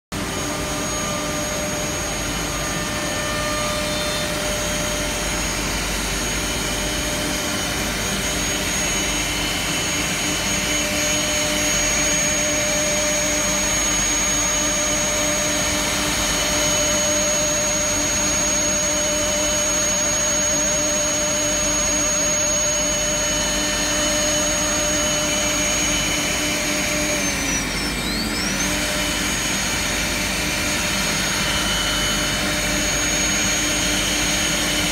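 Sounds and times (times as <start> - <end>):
machine hum: 0.1 - 34.9
router spindles whining: 0.2 - 34.9.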